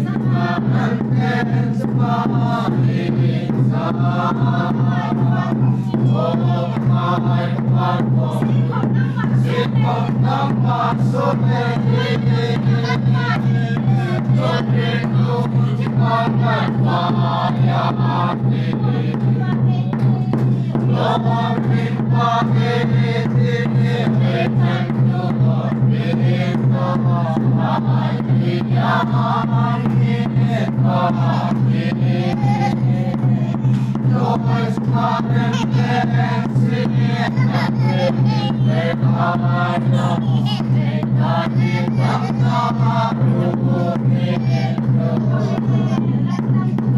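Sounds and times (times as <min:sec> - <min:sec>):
congregation singing a hymn: 0:00.0 - 0:19.5, 0:20.5 - 0:46.8
quick steady beat: 0:00.0 - 0:46.9.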